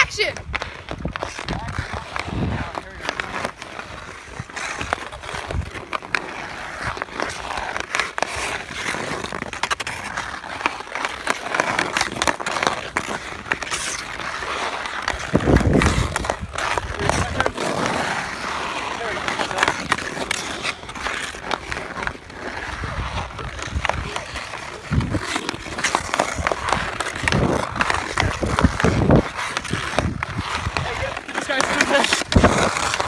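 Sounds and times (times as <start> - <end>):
skate blades scraping ice: 0.0 - 33.0
hockey stick tapping puck: 0.1 - 33.0.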